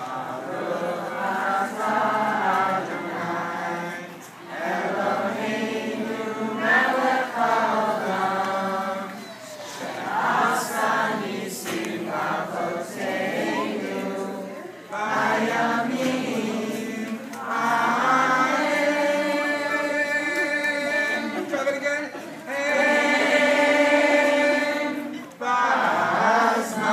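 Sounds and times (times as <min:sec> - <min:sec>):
group singing in unison: 0:00.0 - 0:26.9.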